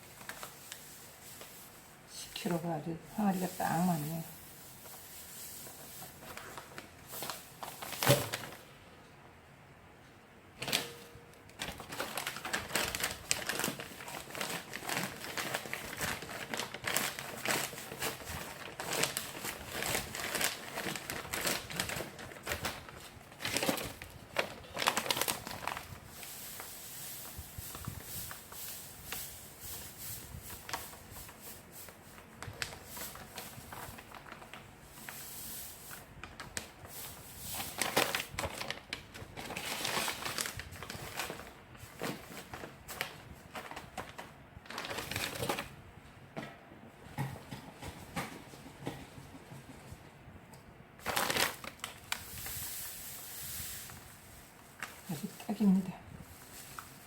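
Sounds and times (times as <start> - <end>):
plastic bag crinkling: 0.0 - 8.8, 11.5 - 45.8, 51.0 - 57.0.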